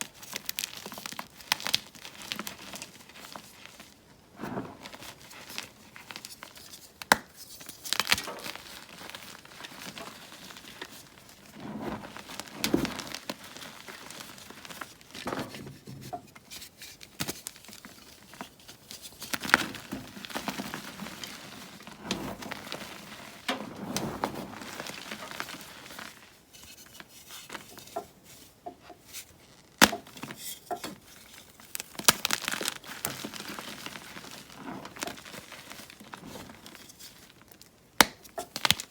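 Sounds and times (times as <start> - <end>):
chalk crunching and crumbling: 0.2 - 38.9.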